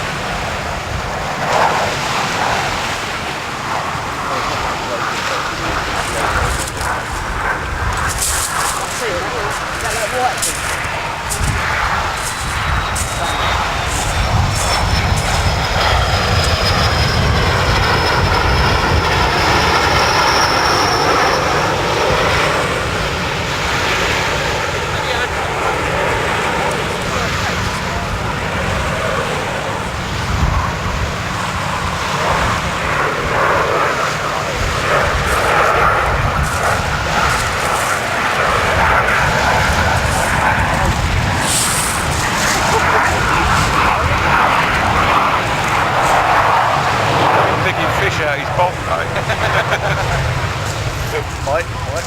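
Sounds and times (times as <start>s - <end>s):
aircraft engine flying past: 0.0s - 52.0s.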